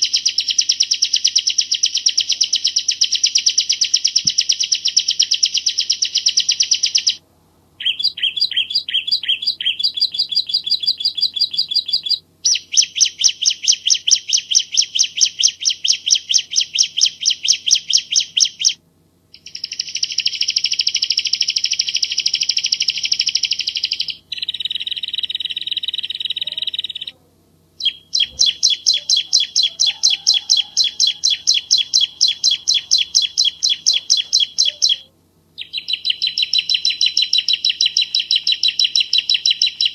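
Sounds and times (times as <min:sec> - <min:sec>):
bird singing rapid trills: 0:00.0 - 0:07.2, 0:07.8 - 0:27.2, 0:27.8 - 0:39.9.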